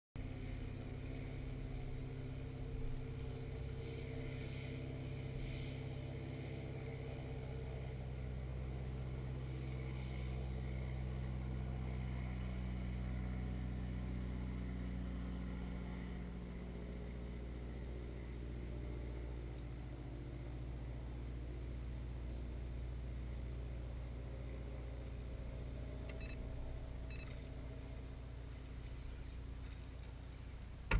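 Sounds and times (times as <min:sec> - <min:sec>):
electric trolling motor humming: 0:00.2 - 0:30.9.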